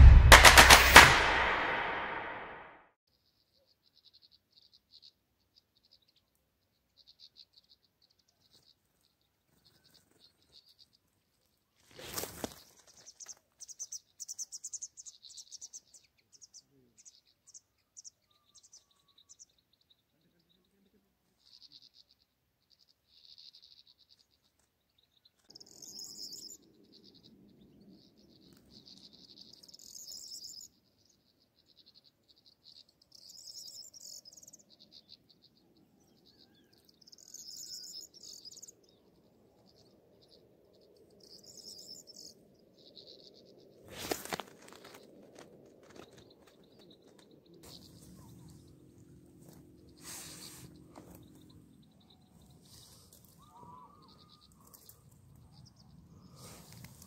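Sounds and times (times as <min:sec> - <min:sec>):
songbirds chirping and twittering: 0:03.1 - 0:57.0.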